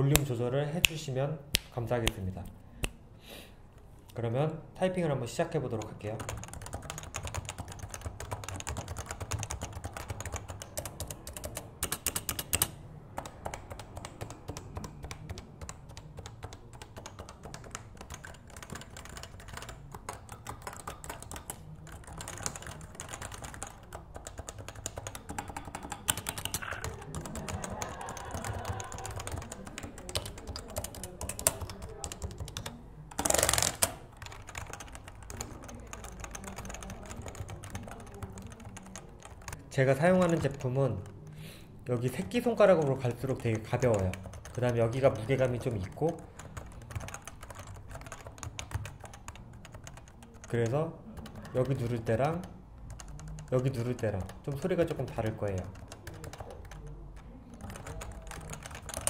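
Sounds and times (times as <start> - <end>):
soft keyboard typing: 5.3 - 59.0.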